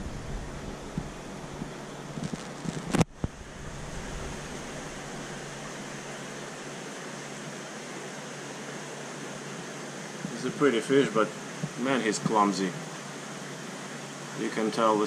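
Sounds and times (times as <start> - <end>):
aquarium water flow hiss: 0.0 - 15.0
faint low hum: 0.0 - 15.0.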